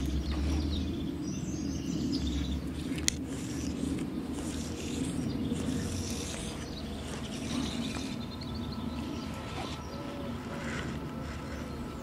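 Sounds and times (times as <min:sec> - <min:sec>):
low outdoor background noise: 0:00.0 - 0:12.0
small birds chirping: 0:00.0 - 0:12.0.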